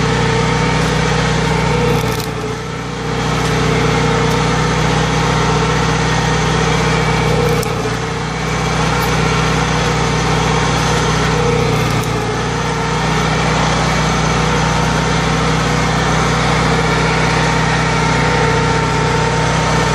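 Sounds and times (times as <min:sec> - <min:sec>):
engine running steadily: 0:00.0 - 0:19.9.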